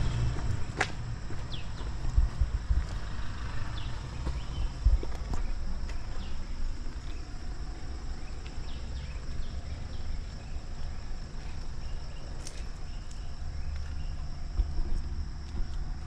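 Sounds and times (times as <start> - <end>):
low microphone rumble: 0.0 - 16.0.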